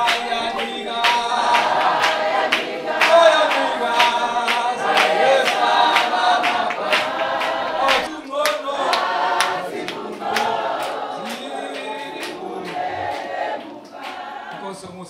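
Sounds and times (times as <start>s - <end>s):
sharp beat: 0.0s - 14.7s
choir singing: 0.0s - 15.0s.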